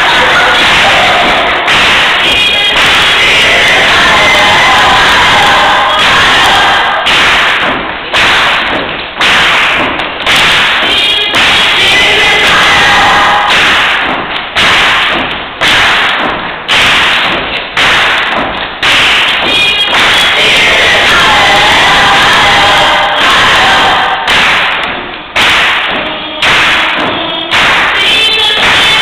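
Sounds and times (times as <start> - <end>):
choir clapping: 0.0 - 29.0
gospel music with thumping beat: 0.0 - 29.0.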